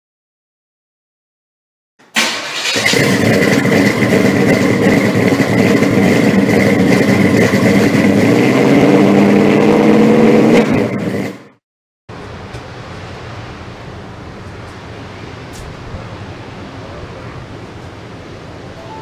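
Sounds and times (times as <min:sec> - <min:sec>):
car engine revving with whine: 0:02.7 - 0:19.0.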